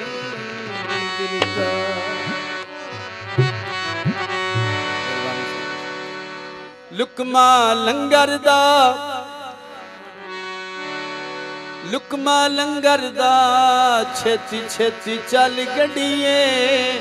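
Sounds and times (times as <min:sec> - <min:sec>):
man singing wordless line: 0:00.0 - 0:05.9, 0:06.9 - 0:10.3, 0:11.8 - 0:17.0
harmonium chords: 0:00.0 - 0:17.0.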